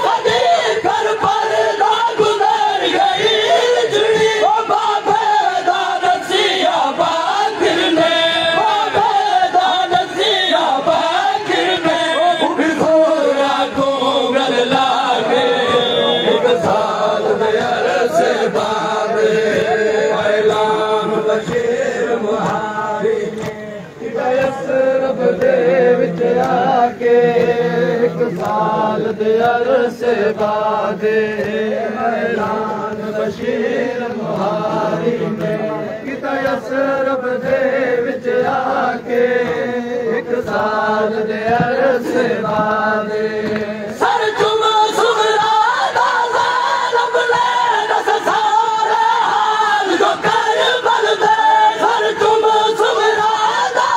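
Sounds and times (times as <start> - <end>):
men chanting a lament: 0.0 - 53.9.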